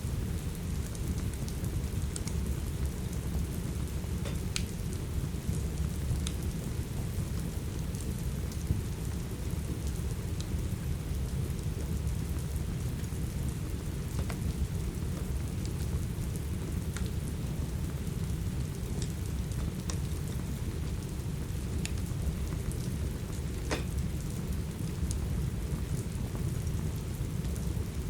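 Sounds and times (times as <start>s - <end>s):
steady rain: 0.0s - 28.0s
wood fire crackling: 0.1s - 28.0s.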